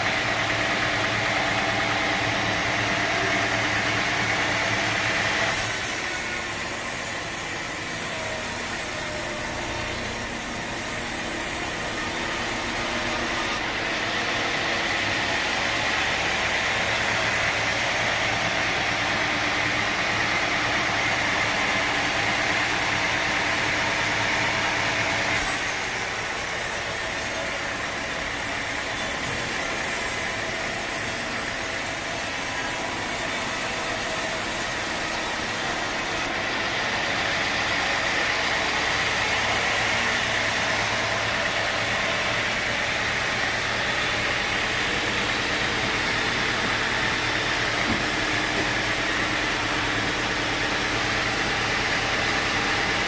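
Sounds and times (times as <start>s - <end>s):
sawmill machinery humming: 0.0s - 53.0s.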